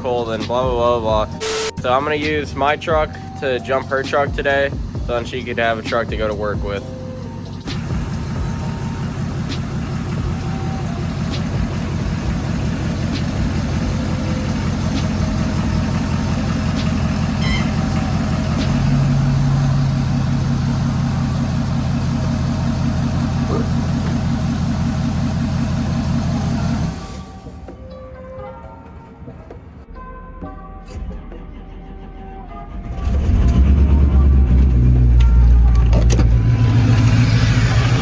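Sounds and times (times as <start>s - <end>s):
truck engine idling: 0.0s - 27.8s, 31.3s - 38.0s.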